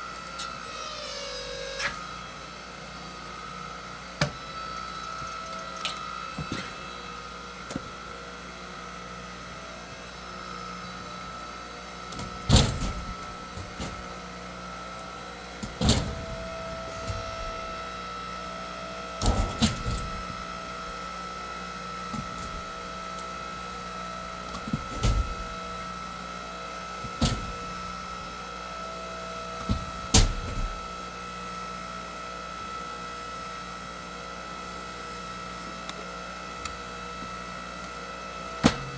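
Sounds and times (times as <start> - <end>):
log splitter engine humming: 0.0 - 38.9.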